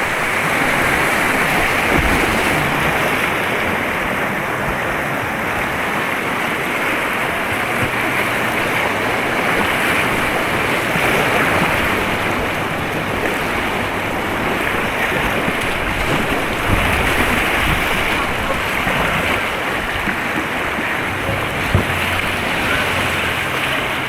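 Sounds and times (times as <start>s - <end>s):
white water rushing: 0.0s - 24.0s.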